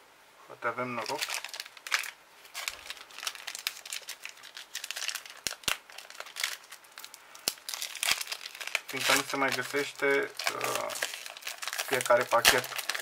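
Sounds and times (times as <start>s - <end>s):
foil wrapper crinkling: 0.9s - 13.0s
sharp foil crackles: 1.0s - 13.0s.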